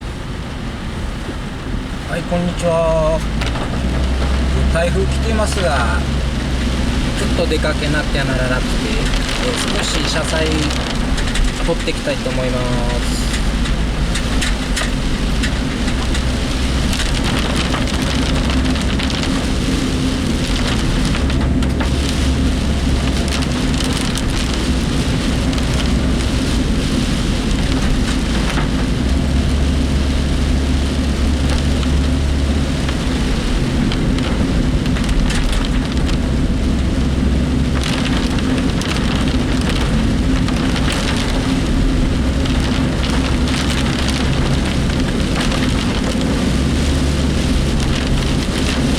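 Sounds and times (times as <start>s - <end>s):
heavy rain hitting vehicle: 0.0s - 48.9s
low road and engine rumble: 0.0s - 48.9s.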